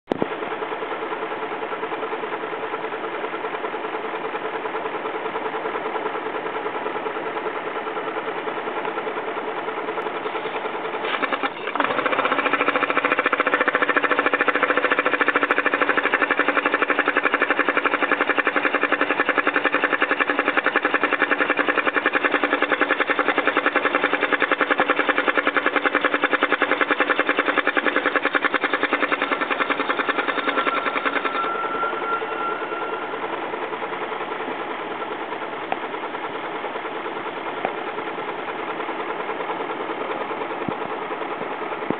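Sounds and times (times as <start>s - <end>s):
car engine idling: 0.1s - 41.9s
fast even engine ticking: 0.1s - 41.9s.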